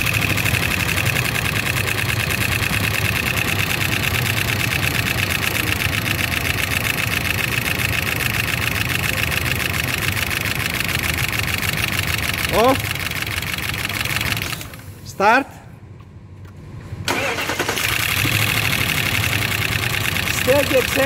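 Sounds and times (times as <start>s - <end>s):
engine tapping: 0.0s - 14.8s, 17.2s - 21.0s
car engine idling: 0.0s - 15.0s, 17.1s - 21.0s.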